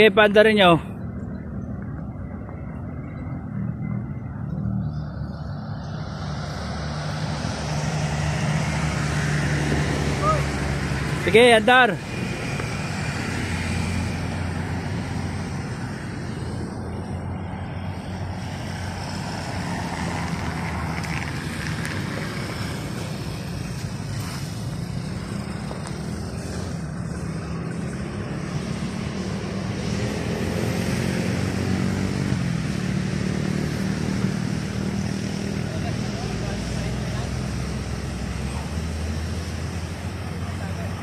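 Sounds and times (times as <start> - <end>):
outdoor air noise: 0.0 - 41.0.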